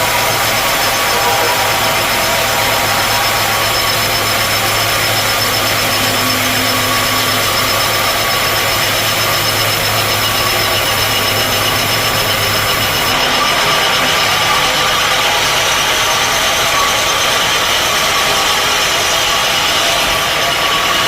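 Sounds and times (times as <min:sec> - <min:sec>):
sawmill machinery droning: 0:00.0 - 0:21.0.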